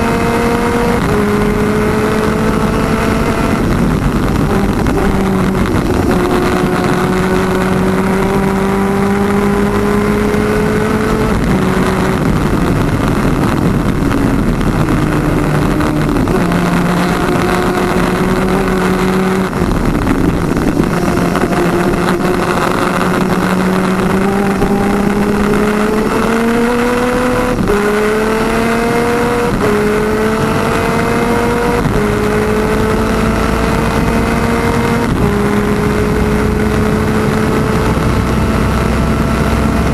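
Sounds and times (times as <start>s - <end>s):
two-stroke kart engine racing: 0.0s - 39.9s
wind rush: 0.0s - 39.9s.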